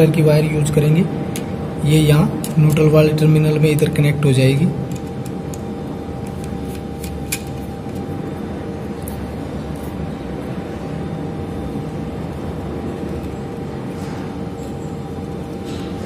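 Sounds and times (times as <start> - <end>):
faint hum: 0.0 - 16.0
low mechanical rumble: 0.0 - 16.0.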